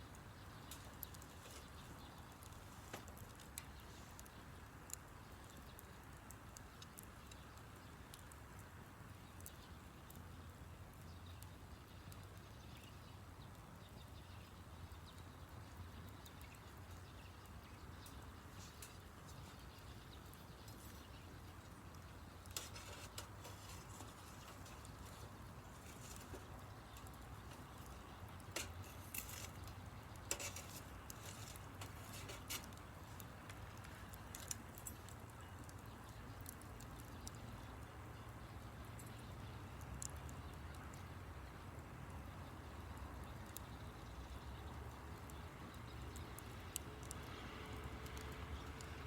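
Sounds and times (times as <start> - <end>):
campfire crackling: 0.0 - 49.0.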